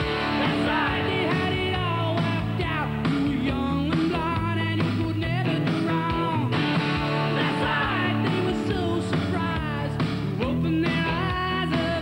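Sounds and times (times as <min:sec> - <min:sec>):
rock music with electric guitar: 0:00.0 - 0:12.0
steady drum beat: 0:00.0 - 0:12.0.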